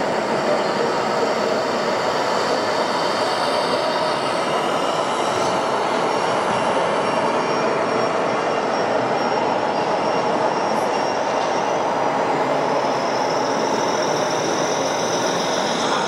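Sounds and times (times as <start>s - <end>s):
faint high whines: 0.0s - 16.0s.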